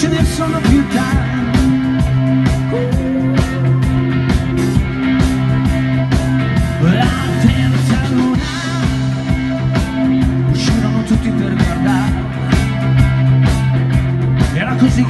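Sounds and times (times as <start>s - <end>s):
bass notes: 0.0s - 15.0s
drum kit beat: 0.0s - 15.0s
sliding lead guitar line: 0.0s - 15.0s.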